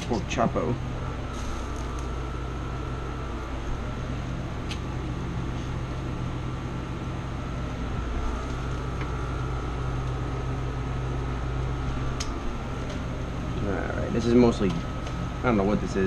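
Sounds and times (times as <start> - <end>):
fan hum with whine: 0.0 - 16.0.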